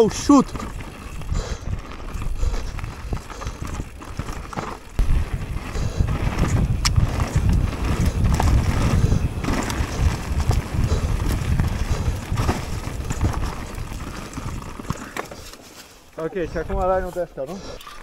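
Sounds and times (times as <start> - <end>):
wind buffeting microphone: 0.0 - 15.0
tyres rumbling on dirt: 0.0 - 17.7
bike clicks and rattles: 0.0 - 18.0.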